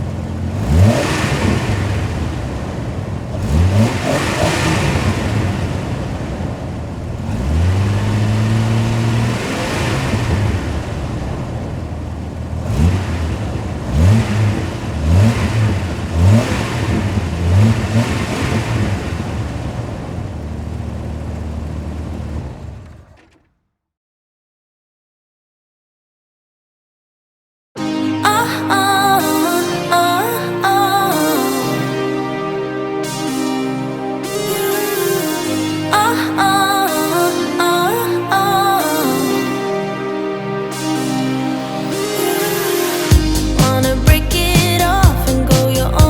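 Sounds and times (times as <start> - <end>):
car engine revving: 0.0 - 23.6, 29.2 - 46.0.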